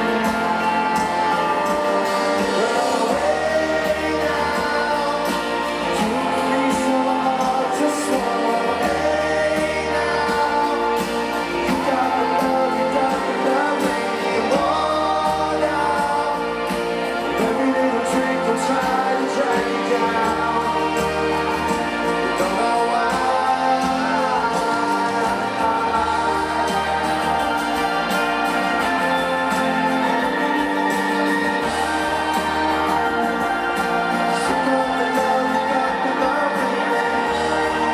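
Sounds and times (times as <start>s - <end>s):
live rock band playing: 0.0s - 37.9s
voices singing together: 0.0s - 37.9s.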